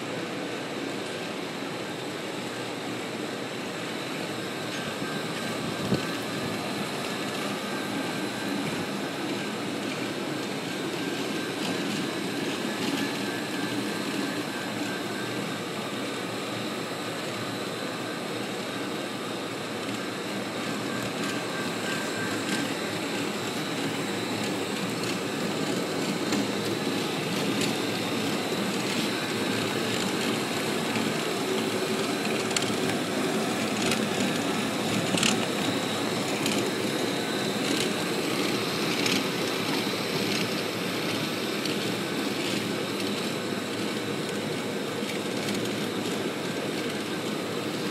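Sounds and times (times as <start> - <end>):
faint steady machine whine: 0.0 - 47.9
concrete floor grinder running: 0.1 - 47.9.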